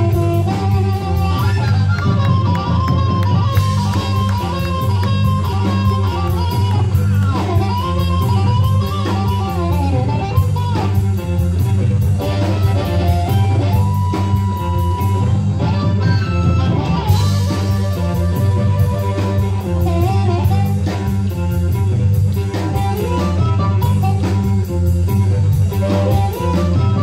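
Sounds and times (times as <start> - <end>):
blues-rock band playing: 0.0 - 27.0
electric guitar lead bending: 0.0 - 27.0.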